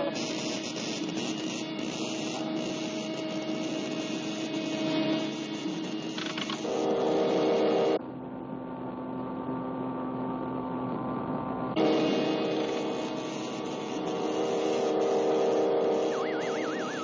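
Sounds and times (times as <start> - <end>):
electrical humming of machinery: 0.0 - 17.0.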